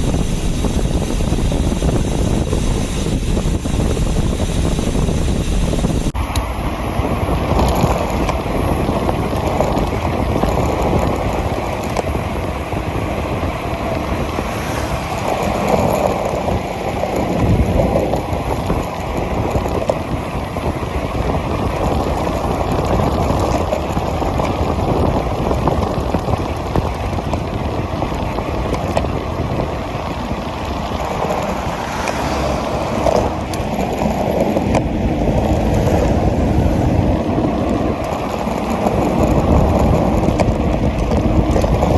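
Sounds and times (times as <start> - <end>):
bicycle tyre road noise: 0.0 - 41.9
wind rush on microphone: 0.0 - 41.9.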